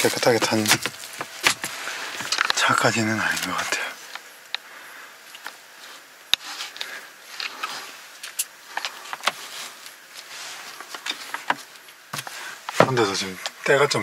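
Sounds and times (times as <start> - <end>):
faint rustling: 0.0 - 13.8.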